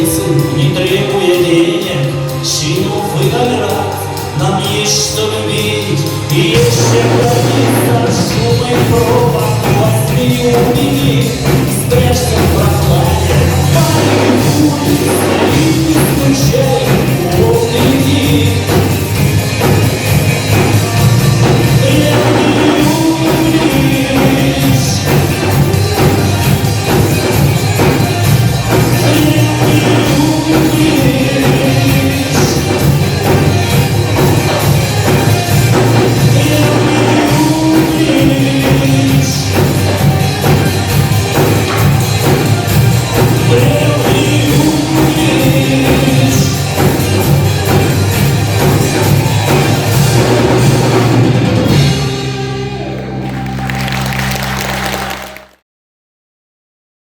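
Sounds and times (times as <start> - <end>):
steady drum beat: 0.0 - 52.5
live rock band playing: 0.0 - 55.6.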